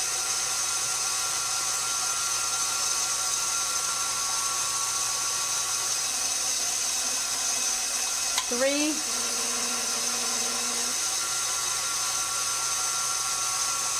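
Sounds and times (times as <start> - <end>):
stand mixer motor whine: 0.0 - 13.9.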